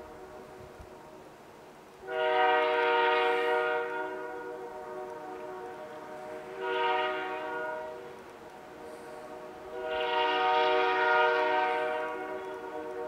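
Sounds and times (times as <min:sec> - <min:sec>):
locomotive air horn: 0:02.0 - 0:13.0.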